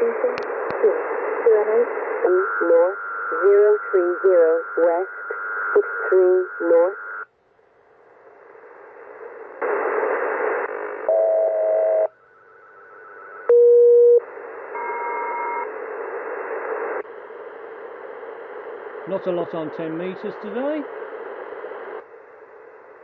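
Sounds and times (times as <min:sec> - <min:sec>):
radio static hiss: 0:00.0 - 0:07.3, 0:08.1 - 0:23.0
short steady radio tones: 0:00.0 - 0:07.3, 0:08.4 - 0:23.0.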